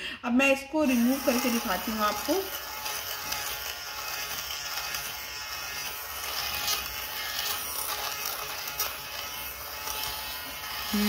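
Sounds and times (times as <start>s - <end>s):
lint remover motor buzz: 0.8s - 11.0s.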